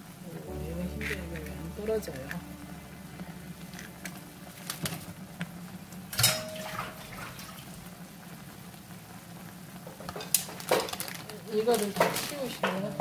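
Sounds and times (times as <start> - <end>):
broth boiling in a pot: 0.0 - 13.0.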